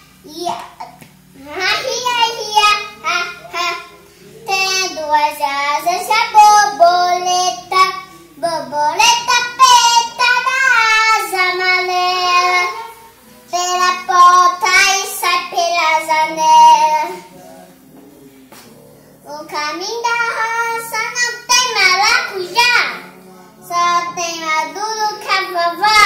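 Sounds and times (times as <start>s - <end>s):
girl singing: 0.0s - 17.3s, 19.2s - 26.0s.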